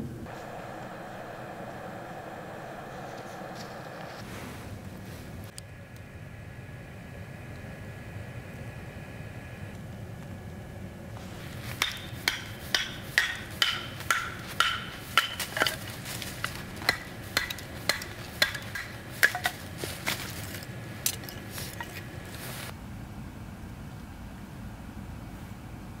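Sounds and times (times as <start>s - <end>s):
steady hiss: 0.0s - 25.6s.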